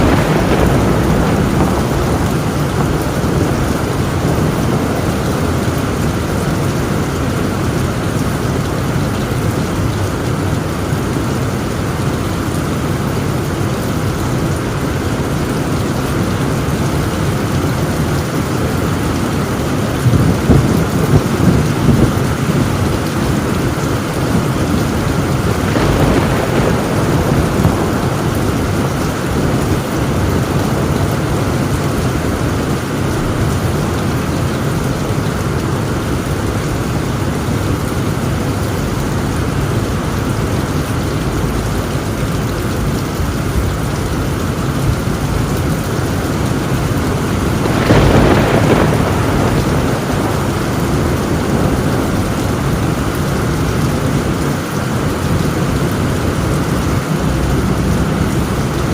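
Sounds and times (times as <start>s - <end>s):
heavy rain on a tin roof: 0.0s - 58.9s
thunder: 0.0s - 58.9s.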